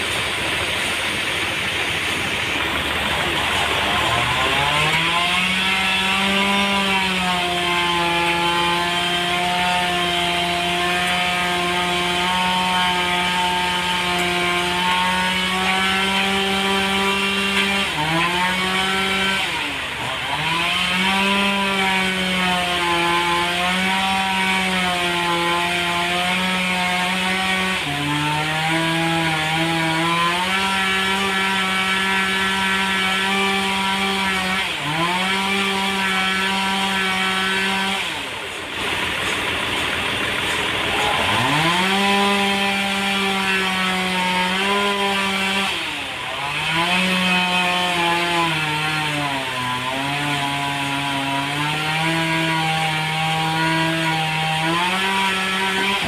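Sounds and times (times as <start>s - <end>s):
sawmill blade cutting log: 0.0s - 56.0s.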